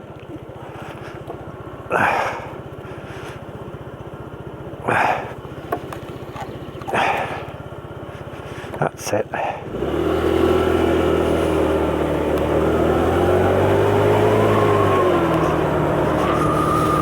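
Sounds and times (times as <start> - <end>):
scooter engine idling: 0.0 - 17.0.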